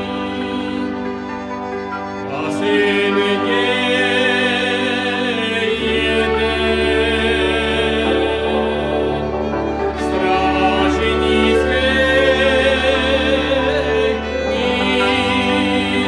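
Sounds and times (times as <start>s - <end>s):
person singing: 0.0s - 1.6s, 2.2s - 16.0s
bowed strings: 0.0s - 16.0s.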